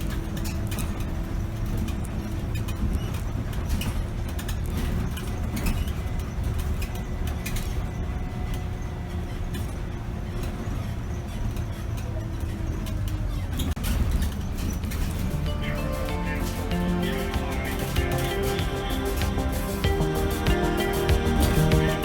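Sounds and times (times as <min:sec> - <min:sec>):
bus diesel engine: 0:00.0 - 0:22.0
road rumble: 0:00.0 - 0:22.0.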